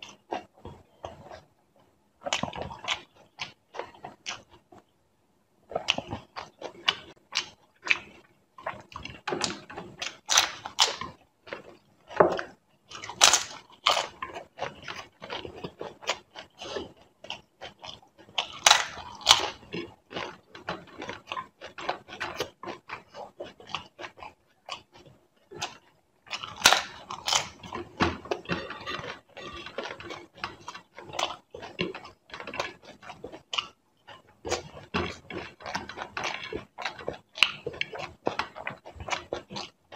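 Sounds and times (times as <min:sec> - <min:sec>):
chewing crisp fried bread: 0:00.0 - 0:05.0, 0:05.6 - 0:39.9.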